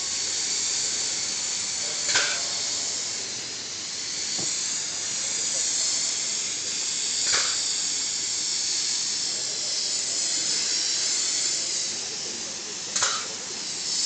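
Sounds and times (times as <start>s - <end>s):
spray gun hissing: 0.0s - 14.0s.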